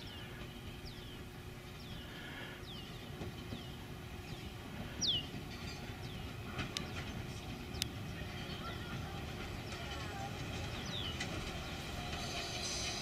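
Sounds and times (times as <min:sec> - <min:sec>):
railcar rumbling on track: 0:00.0 - 0:13.0.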